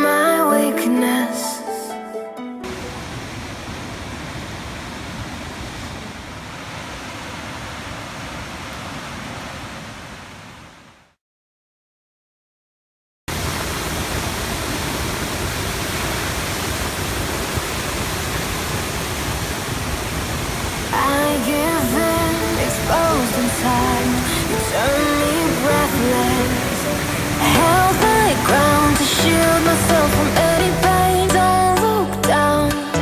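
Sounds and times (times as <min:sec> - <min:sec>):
waterfall roaring: 0:02.6 - 0:11.0, 0:13.3 - 0:31.9.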